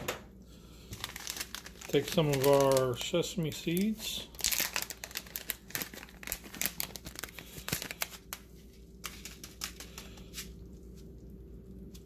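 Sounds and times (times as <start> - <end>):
plastic bag crinkling: 0.8 - 12.0.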